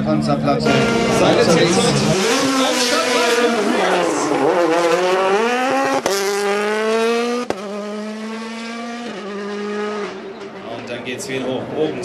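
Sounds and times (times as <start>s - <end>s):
rally car engine at high revs: 0.0s - 10.7s.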